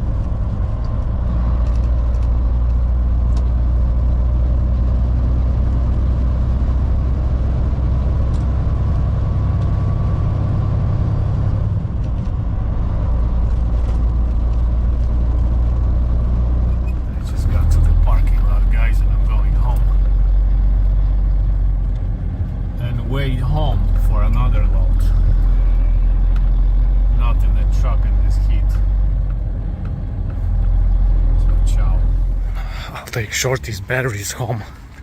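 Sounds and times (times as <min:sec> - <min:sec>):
truck diesel engine droning: 0:00.0 - 0:35.0.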